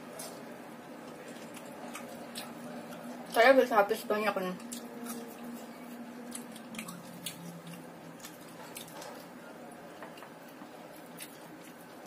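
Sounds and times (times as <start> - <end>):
crunchy chewing: 0.1 - 3.4, 4.6 - 12.0.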